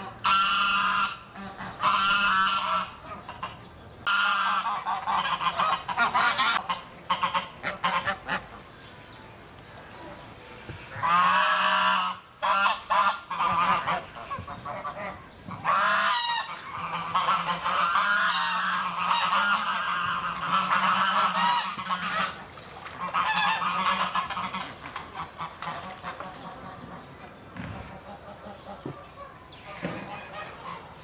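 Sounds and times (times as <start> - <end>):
geese honking: 0.0 - 8.6, 10.8 - 27.1.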